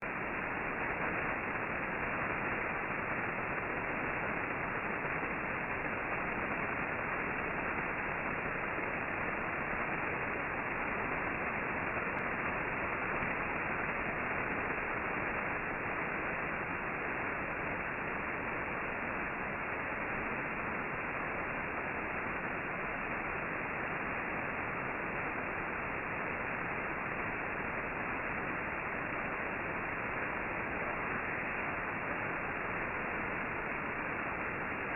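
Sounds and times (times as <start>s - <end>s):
radio static hiss: 0.0s - 34.9s.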